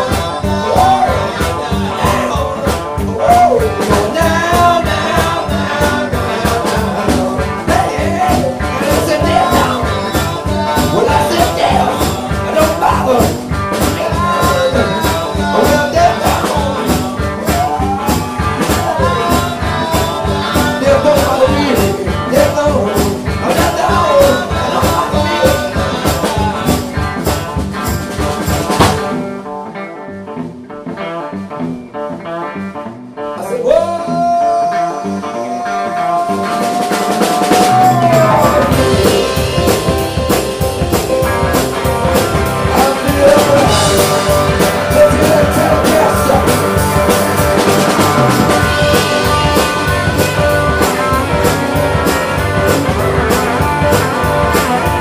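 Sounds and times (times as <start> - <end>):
drums and cymbals: 0.0 - 29.4, 36.2 - 55.0
live rock band playing: 0.0 - 55.0.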